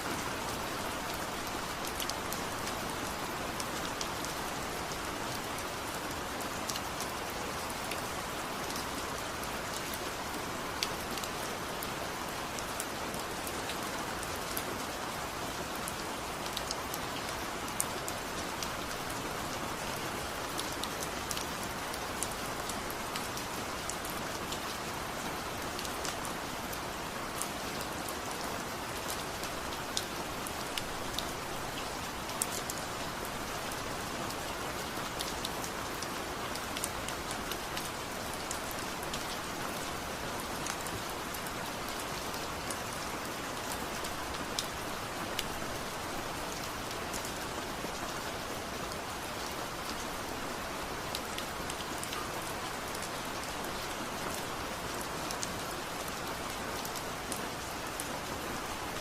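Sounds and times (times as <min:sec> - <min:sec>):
steady rain hissing: 0:00.0 - 0:59.0
ticks of raindrops: 0:00.0 - 0:59.0.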